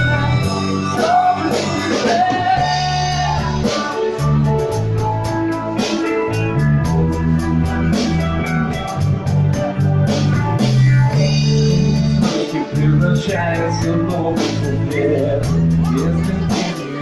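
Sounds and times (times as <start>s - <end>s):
bass line: 0.0s - 17.0s
guitar: 0.0s - 17.0s
steady drum beat: 0.0s - 17.0s.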